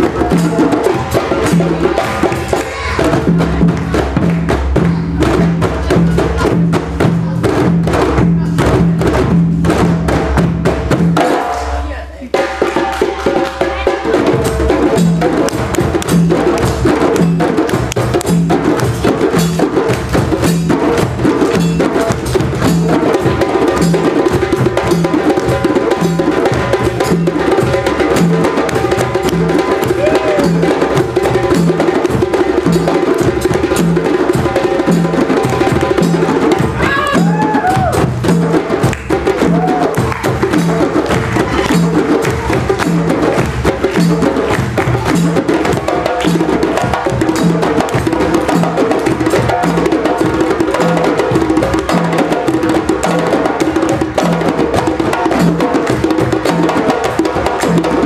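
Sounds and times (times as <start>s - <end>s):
djembe ensemble drumming: 0.0s - 58.0s.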